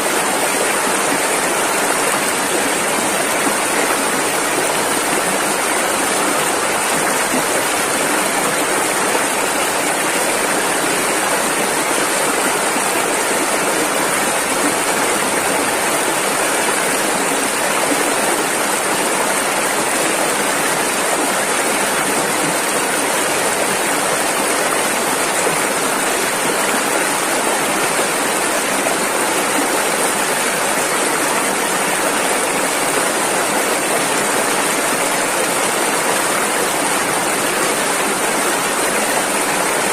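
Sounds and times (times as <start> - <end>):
river water rushing over rapids: 0.0 - 39.9.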